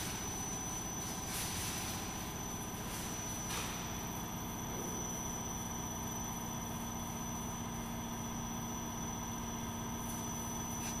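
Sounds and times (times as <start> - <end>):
machinery drone with high whine: 0.0 - 11.0.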